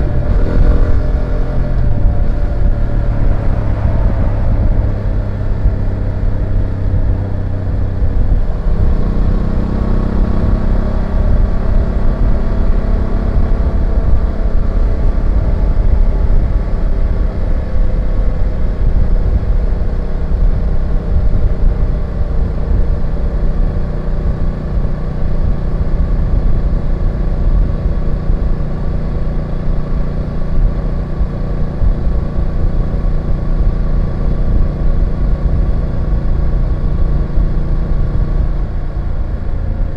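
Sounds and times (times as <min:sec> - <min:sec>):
motorcycle engine running: 0:00.0 - 0:39.9
road rumble: 0:00.0 - 0:39.9
wind: 0:00.0 - 0:39.9.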